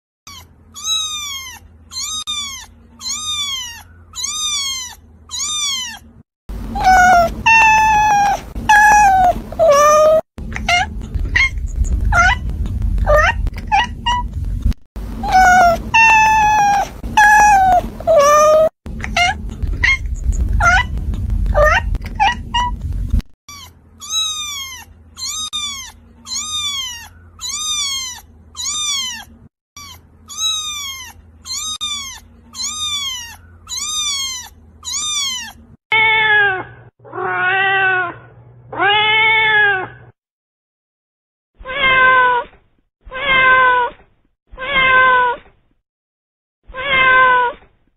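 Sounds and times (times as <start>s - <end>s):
cats meowing: 0.3s - 6.2s, 6.8s - 14.3s, 15.2s - 22.8s, 23.5s - 40.0s, 46.7s - 47.6s.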